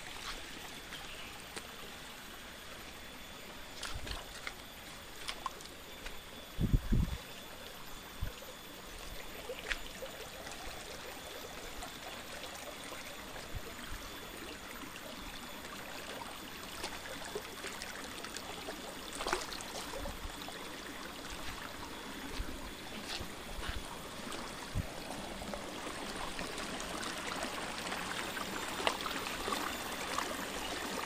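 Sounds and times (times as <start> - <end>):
stream running over stones: 0.0 - 31.0.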